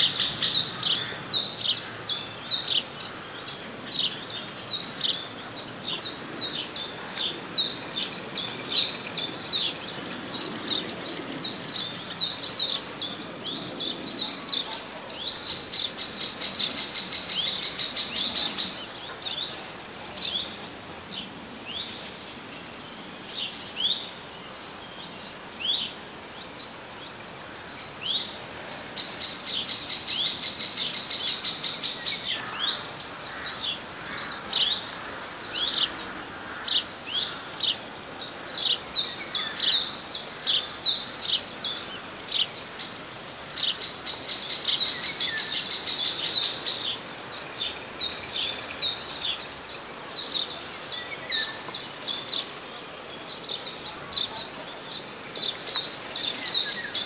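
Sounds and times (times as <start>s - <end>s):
faint background hiss: 0.0s - 57.0s
songbirds chirping: 0.0s - 57.0s.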